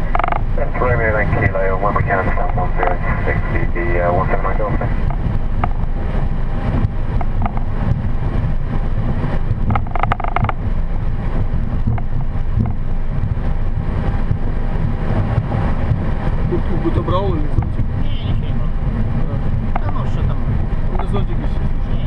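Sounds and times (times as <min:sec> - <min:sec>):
aircraft engines idling: 0:00.0 - 0:22.0
airflow noise: 0:00.0 - 0:22.0.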